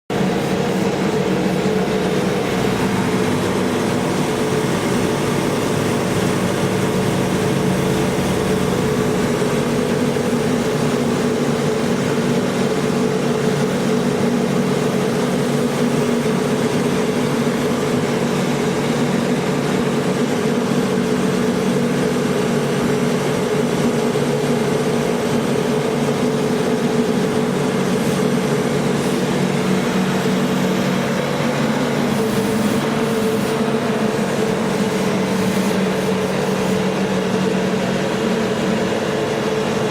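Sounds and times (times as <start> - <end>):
vacuum cleaner running: 0.1 - 39.9.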